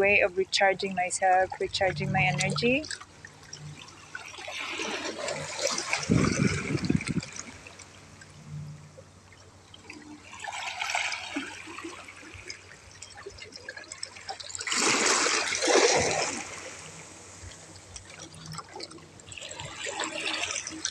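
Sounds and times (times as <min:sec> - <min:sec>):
sea waves washing on shore: 0:00.0 - 0:20.9.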